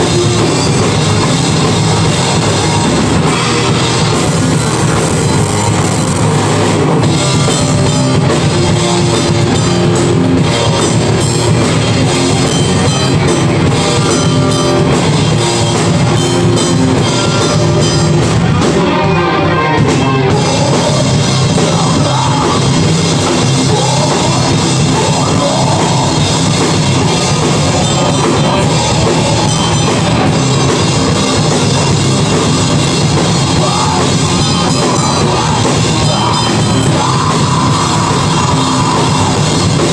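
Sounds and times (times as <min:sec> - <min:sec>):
distorted electric guitar: 0:00.0 - 0:39.9
drum kit with cymbals: 0:00.0 - 0:39.9.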